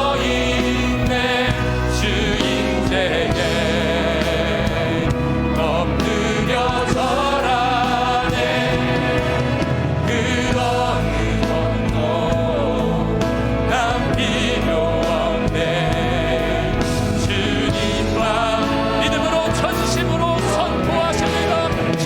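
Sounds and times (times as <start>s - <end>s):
band playing worship song: 0.0s - 22.0s
voices singing: 0.0s - 22.0s.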